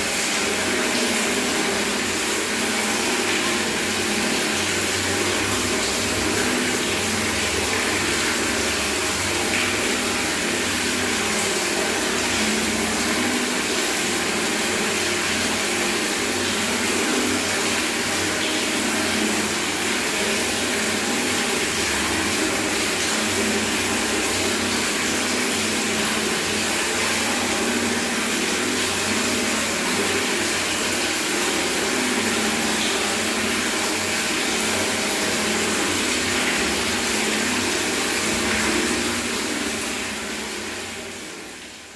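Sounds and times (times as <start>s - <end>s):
tap water running into bucket: 0.0s - 41.9s.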